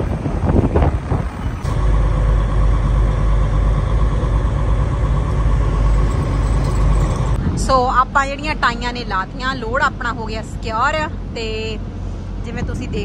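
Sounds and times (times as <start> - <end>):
outdoor noise: 0.0 - 13.0
truck engine and road noise: 0.0 - 13.0.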